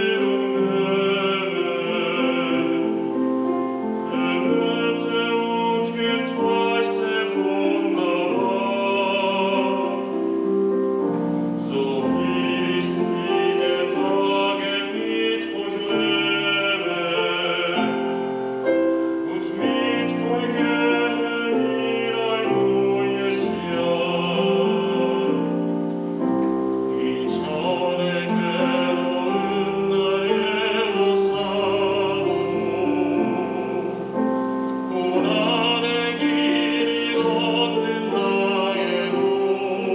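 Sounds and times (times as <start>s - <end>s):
piano: 0.0s - 39.9s
vocal trio singing: 0.0s - 39.9s.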